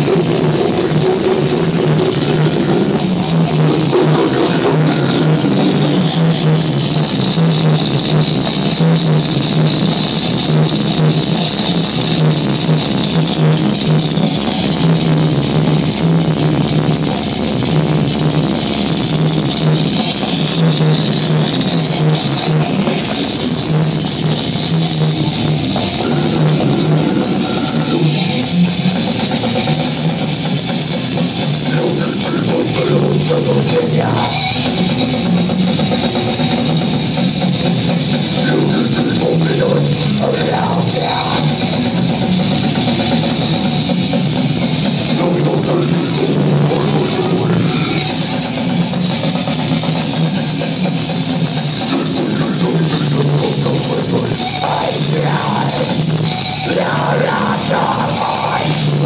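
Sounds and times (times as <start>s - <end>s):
distorted electric guitar: 0.0s - 59.0s
drums: 0.0s - 59.0s.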